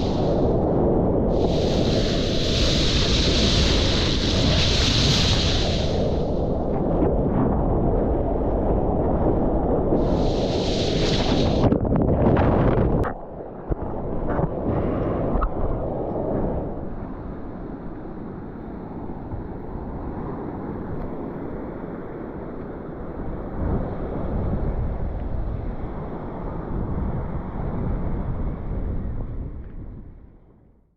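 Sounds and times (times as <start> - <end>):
wind buffeting microphone: 0.0 - 18.0, 23.0 - 30.7
heavy surf rushing: 0.0 - 28.8.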